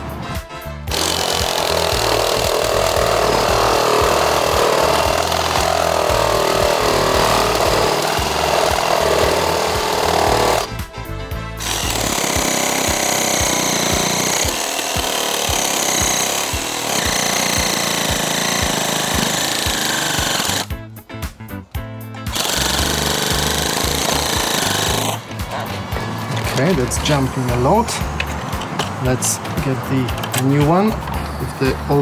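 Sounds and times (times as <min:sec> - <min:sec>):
reciprocating saw cutting wood: 0:00.9 - 0:10.8, 0:11.6 - 0:20.7, 0:22.3 - 0:29.0.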